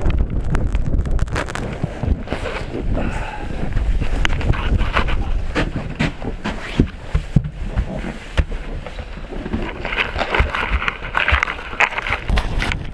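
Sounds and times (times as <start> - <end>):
blizzard wind buffeting microphone: 0.0 - 12.9.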